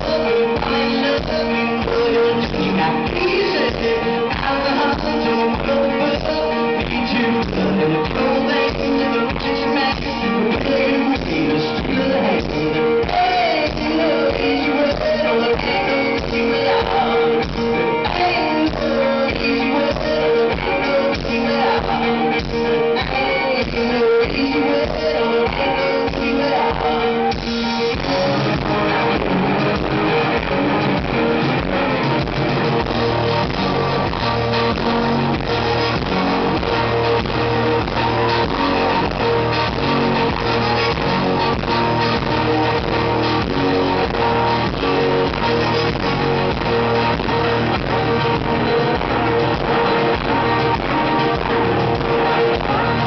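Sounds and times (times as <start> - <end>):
bass notes: 0.0 - 53.0
electric guitar: 0.0 - 53.0
live rock band: 0.0 - 53.0
person singing: 0.0 - 53.0.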